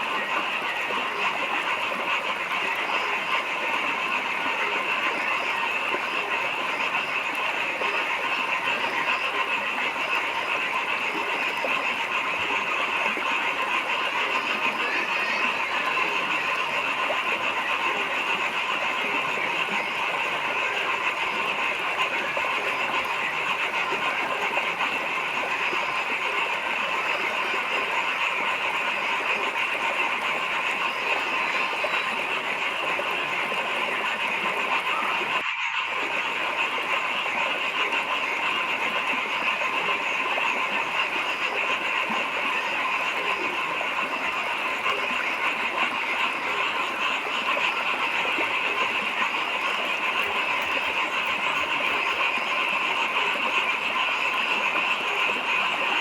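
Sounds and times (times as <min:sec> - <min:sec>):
frogs calling in chorus: 0:00.0 - 0:56.0.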